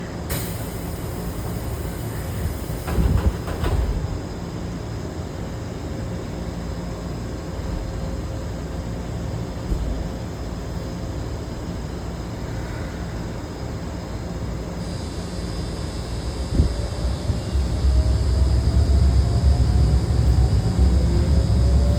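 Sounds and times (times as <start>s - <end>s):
electric train rumble: 0.0s - 21.9s.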